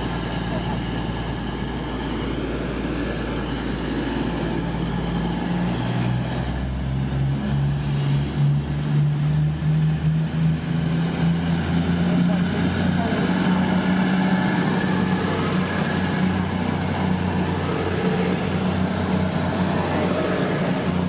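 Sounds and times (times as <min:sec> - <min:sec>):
rail and wheel rumble: 0:00.0 - 0:21.0
train diesel engine hum: 0:00.0 - 0:21.0.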